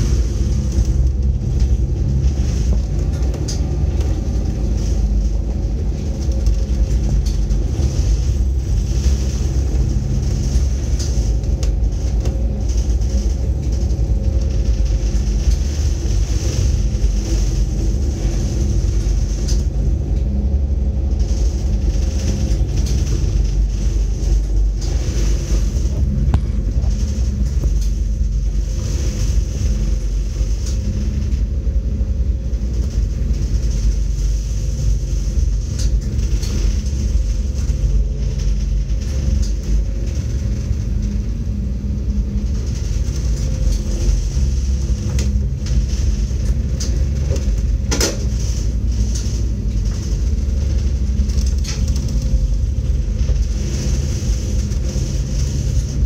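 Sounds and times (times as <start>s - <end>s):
ship engines rumbling: 0.0s - 56.0s.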